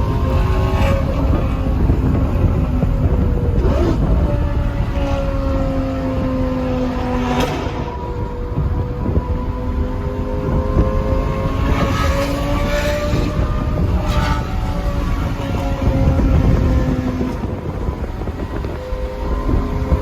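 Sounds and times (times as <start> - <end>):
car engine running from inside: 0.0 - 20.0.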